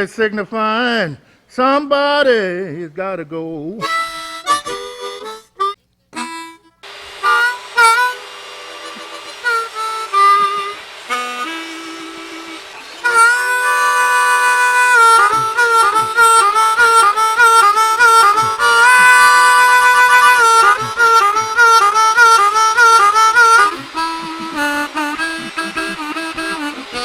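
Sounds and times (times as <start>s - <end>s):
blues harmonica playing: 3.7s - 27.0s.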